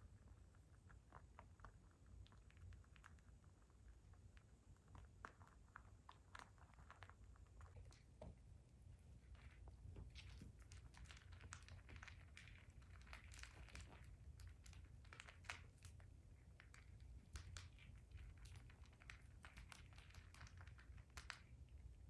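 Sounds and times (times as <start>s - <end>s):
rabbits chewing and crunching: 0.0s - 22.0s.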